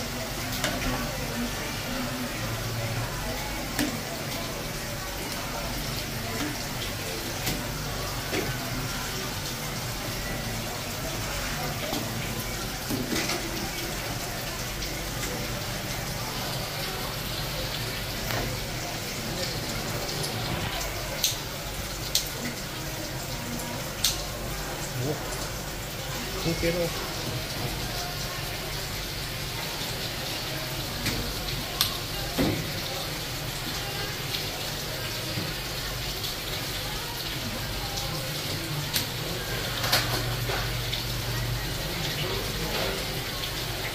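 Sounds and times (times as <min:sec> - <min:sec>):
indistinct voices: 0:00.0 - 0:35.8
water running from tap: 0:00.0 - 0:43.9.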